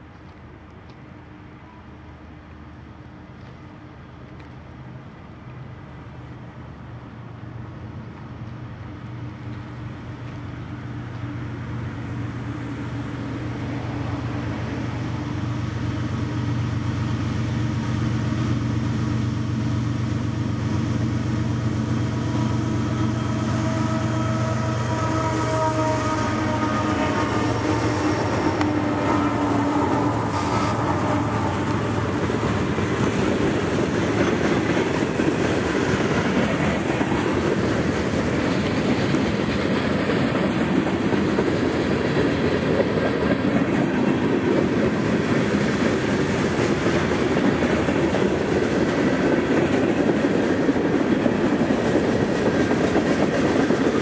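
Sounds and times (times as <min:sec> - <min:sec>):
locomotive engine drone: 0:00.0 - 0:54.0
train wheels rolling over rails: 0:07.9 - 0:54.0.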